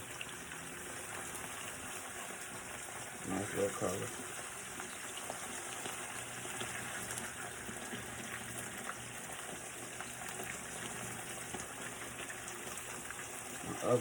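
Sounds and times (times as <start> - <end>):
poultry sizzling in a pan: 0.0 - 14.0.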